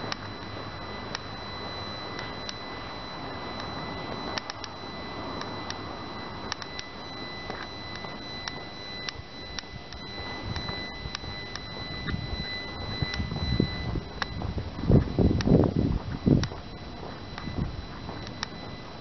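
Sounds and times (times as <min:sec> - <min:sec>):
thin steady high whine: 0:00.0 - 0:19.0.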